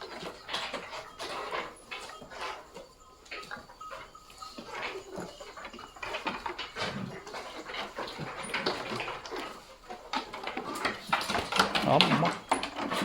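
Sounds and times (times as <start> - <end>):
low animal call: 0.0 - 13.0
rams scuffling and knocking: 0.0 - 13.0.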